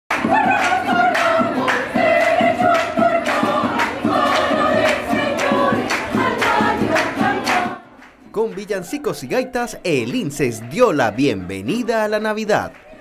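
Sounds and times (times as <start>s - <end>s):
choir singing a carol: 0.1s - 7.9s, 8.8s - 13.0s.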